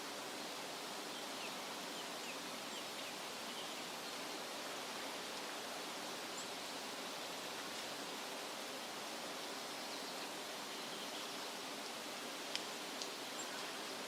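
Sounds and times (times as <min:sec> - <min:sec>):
wind rustling leafy trees: 0:00.0 - 0:14.0.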